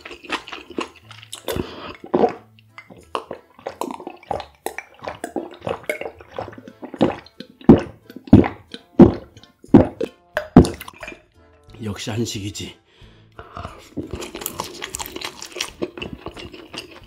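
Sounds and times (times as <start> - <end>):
gulping and swallowing: 0.0 - 11.3, 13.4 - 17.0.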